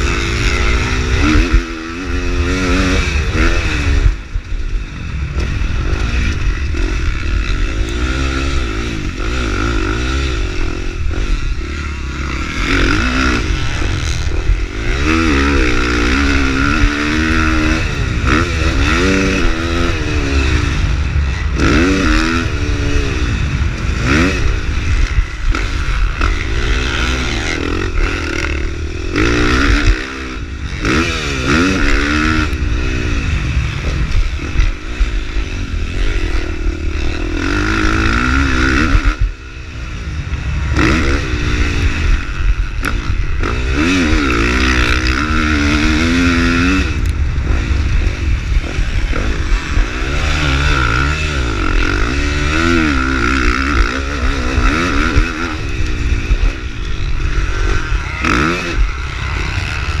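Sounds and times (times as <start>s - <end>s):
motocross bike engine revving: 0.0s - 60.0s
steady low rumble: 0.0s - 60.0s.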